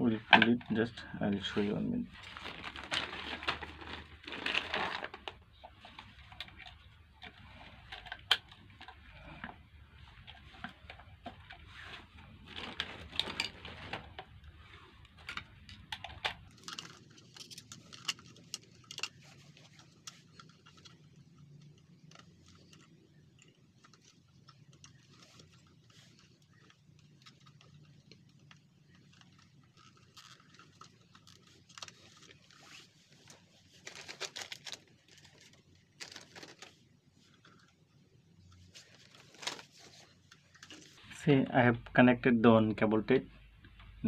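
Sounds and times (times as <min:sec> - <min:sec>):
low background hum: 0:00.0 - 0:44.0
plastic parts clicking and rustling: 0:00.2 - 0:41.0.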